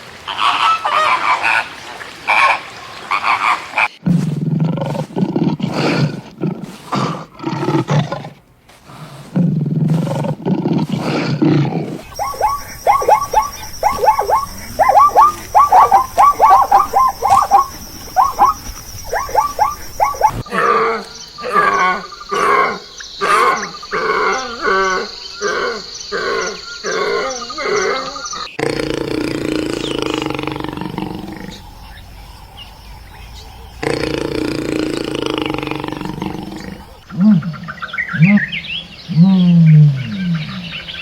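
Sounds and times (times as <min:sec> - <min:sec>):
animal calls: 0:00.3 - 0:05.0, 0:09.9 - 0:41.0.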